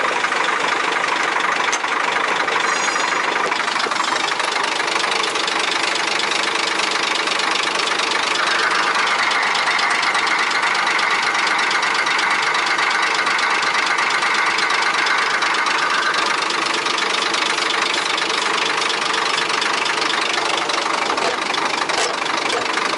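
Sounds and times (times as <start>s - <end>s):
truck diesel engine idling: 0.0s - 22.9s.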